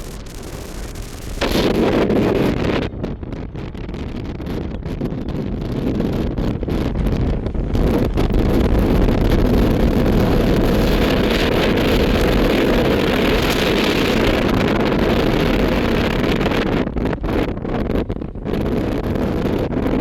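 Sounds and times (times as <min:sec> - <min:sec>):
jet engine roar: 0:00.0 - 0:03.3, 0:05.8 - 0:20.0
wind buffeting microphone: 0:00.0 - 0:20.0.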